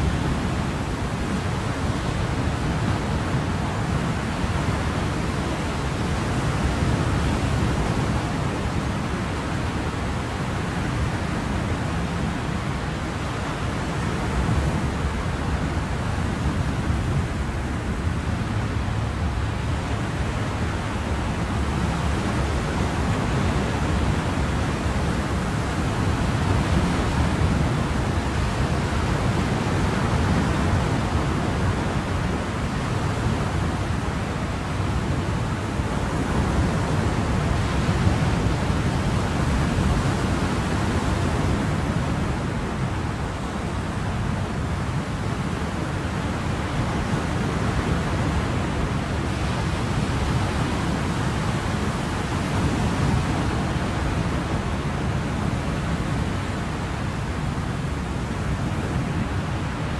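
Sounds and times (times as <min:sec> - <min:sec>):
ocean waves washing onto shore: 0:00.0 - 0:59.9.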